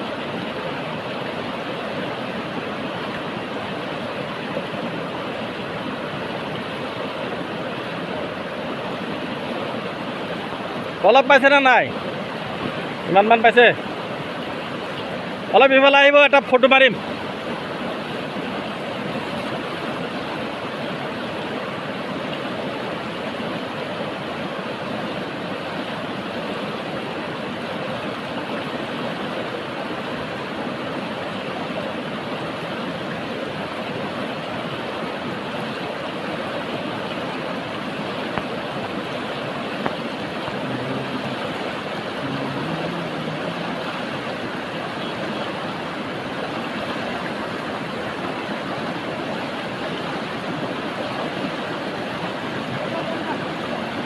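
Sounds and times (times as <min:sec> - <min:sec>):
river current rushing: 0:00.0 - 0:54.0.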